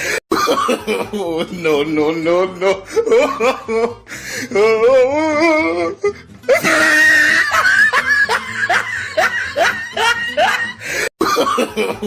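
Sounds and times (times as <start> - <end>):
person laughing: 0.0 - 1.9, 2.5 - 4.9, 6.0 - 12.0.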